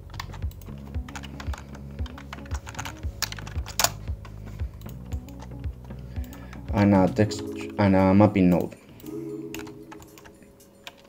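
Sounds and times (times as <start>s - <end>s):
soft background music: 0.0s - 11.0s
keyboard and mouse clicks: 0.1s - 7.8s, 8.5s - 11.0s.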